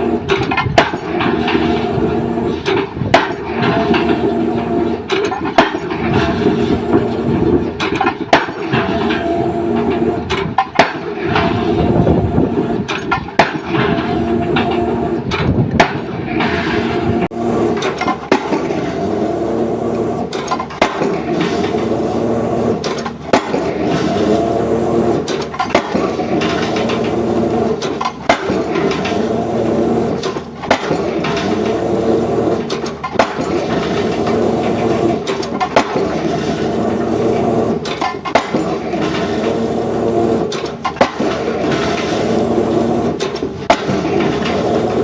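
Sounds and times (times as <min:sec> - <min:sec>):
heavy machine engine running: 0:00.0 - 0:45.0
pile-driving hammer impacts: 0:00.3 - 0:04.3, 0:05.1 - 0:11.9, 0:12.8 - 0:19.4, 0:20.2 - 0:45.0.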